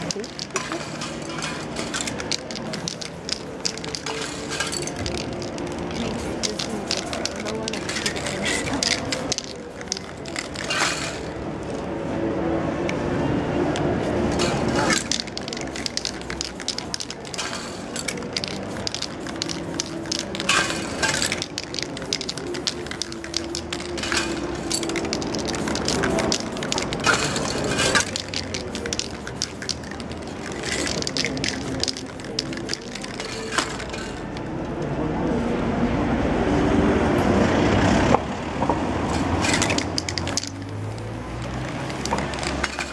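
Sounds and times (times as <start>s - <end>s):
spray-paint can hissing: 0.0s - 11.3s, 14.3s - 34.0s, 39.5s - 42.9s
cans and paper handled: 0.0s - 11.8s, 14.3s - 34.2s, 39.4s - 42.9s.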